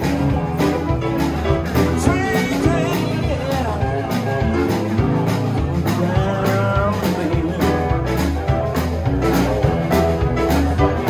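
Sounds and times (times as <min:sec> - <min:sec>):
drum kit steady beat: 0:00.0 - 0:11.0
electric guitars: 0:00.0 - 0:11.0
keyboard: 0:00.0 - 0:11.0.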